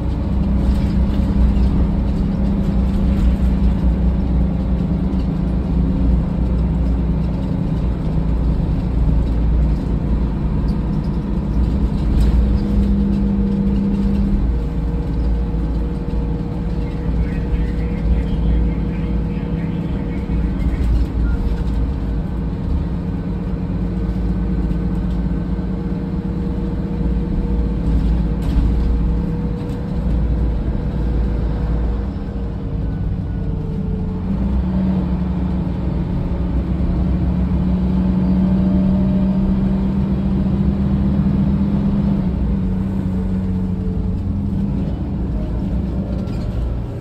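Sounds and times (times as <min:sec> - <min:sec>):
bus engine and road rumble: 0:00.0 - 0:47.0.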